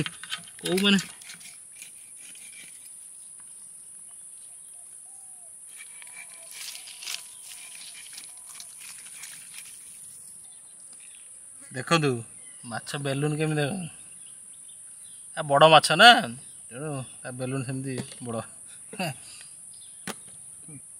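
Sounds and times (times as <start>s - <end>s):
faint distant calls: 0.0s - 20.9s
insects droning: 0.0s - 20.9s.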